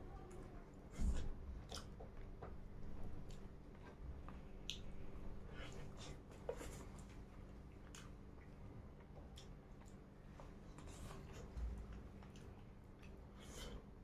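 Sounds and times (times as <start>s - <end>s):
person chewing food: 1.0s - 14.0s.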